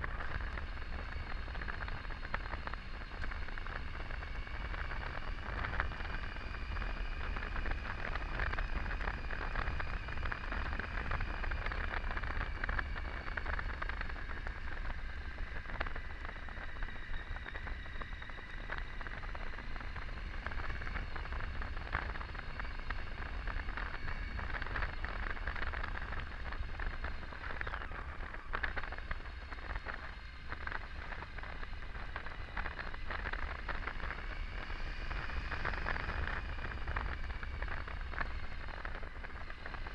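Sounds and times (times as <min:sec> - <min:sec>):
faint whine: 0:00.0 - 0:39.9
motorcycle engine cruising: 0:00.0 - 0:39.9
road noise: 0:00.0 - 0:39.9
wind rush: 0:00.0 - 0:39.9.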